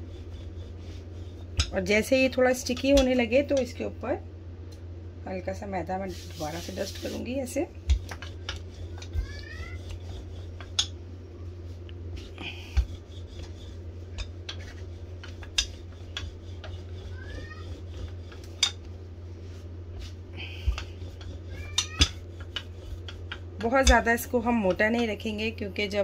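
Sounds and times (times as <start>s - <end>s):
rolling pin rolling over pastry: 0.0s - 3.9s, 5.8s - 26.0s
steady low hum: 0.0s - 26.0s.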